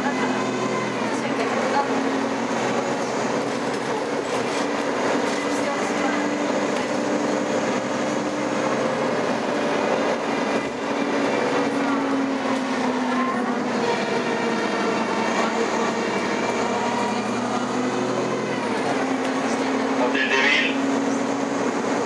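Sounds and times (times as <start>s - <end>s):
bus drivetrain hum and whine: 0.0s - 22.0s
road noise: 0.0s - 22.0s.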